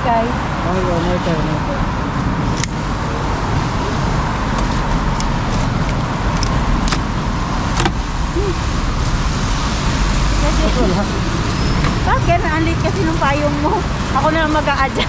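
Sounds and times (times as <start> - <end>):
passing road traffic: 0.0 - 15.0.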